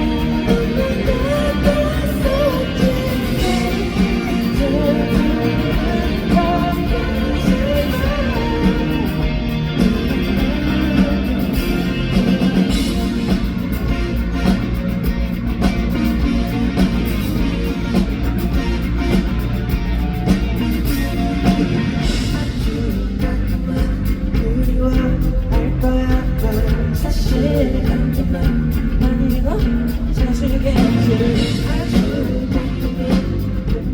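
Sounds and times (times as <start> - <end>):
person singing: 0.0 - 14.6, 20.6 - 33.9
live rock band playing: 0.0 - 33.9
steady drum beat: 0.0 - 33.9.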